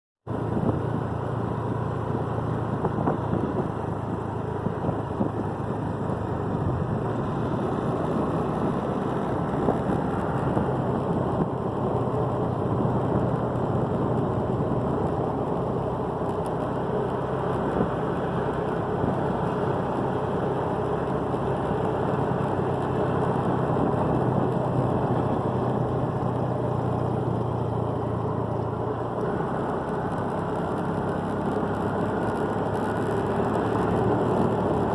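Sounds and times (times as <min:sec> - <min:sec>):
road noise: 0:00.2 - 0:34.9
motorcycle engine running: 0:00.3 - 0:34.9.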